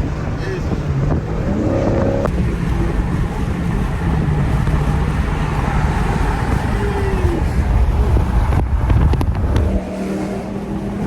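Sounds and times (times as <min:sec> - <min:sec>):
car engine rumbling: 0:00.0 - 0:11.0
road noise: 0:00.0 - 0:11.0.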